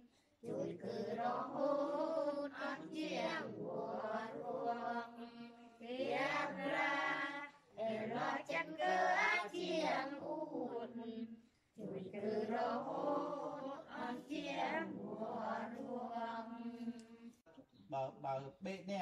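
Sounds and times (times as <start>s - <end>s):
group singing a hymn unaccompanied: 0.0s - 17.4s.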